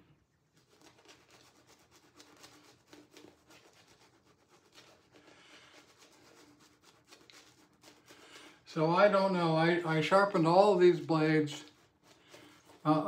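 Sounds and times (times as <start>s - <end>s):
shaving brush scratching on stubble: 0.6s - 13.0s.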